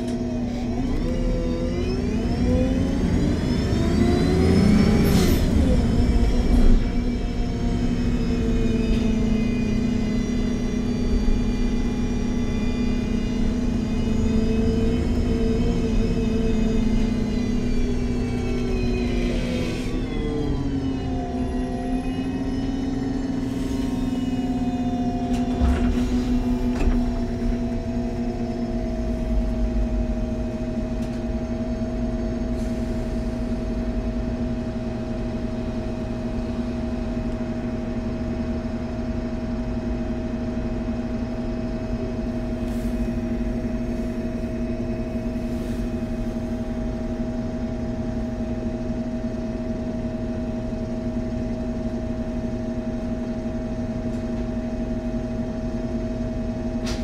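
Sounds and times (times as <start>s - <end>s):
bus engine hum and whine: 0.0s - 57.0s.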